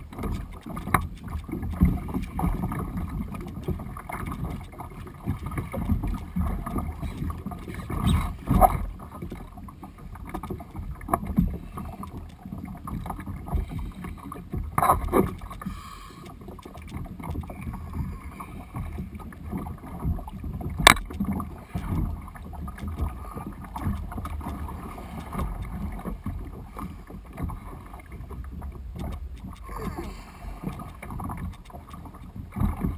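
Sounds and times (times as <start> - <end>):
water splashing against kayak bow: 0.0 - 32.9.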